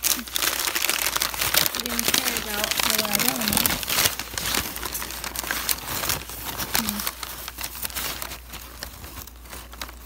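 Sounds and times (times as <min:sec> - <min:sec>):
crumpled newspaper rustling: 0:00.0 - 0:10.0.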